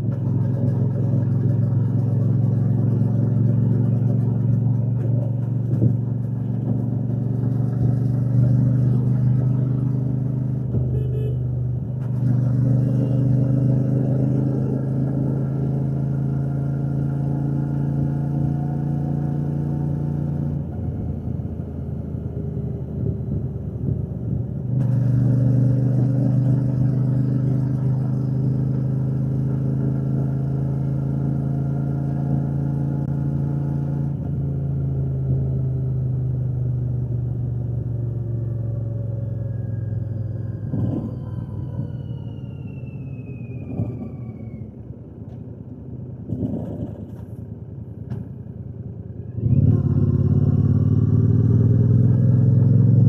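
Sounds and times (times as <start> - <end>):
motorcycle engine and exhaust: 0.0 - 53.0.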